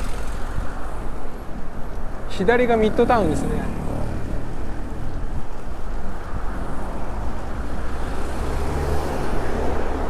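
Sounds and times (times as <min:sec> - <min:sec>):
road traffic: 0:00.0 - 0:10.0
wind rushing over microphone: 0:00.0 - 0:10.0.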